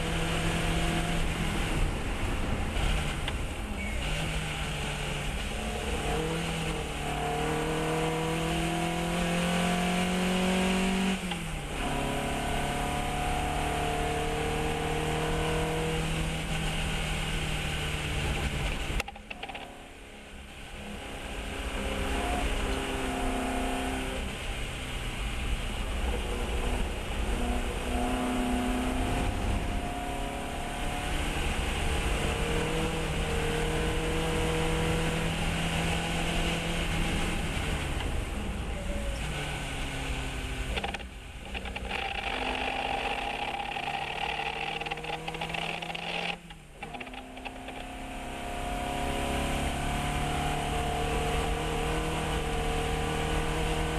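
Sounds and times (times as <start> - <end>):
race car engine revving: 0.0 - 19.7, 20.7 - 38.4, 39.0 - 53.9.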